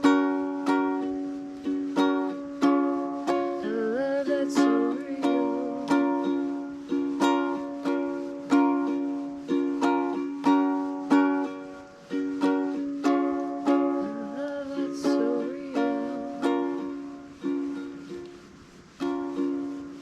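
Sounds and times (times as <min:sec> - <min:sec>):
plucked string instrument notes: 0:00.0 - 0:20.0.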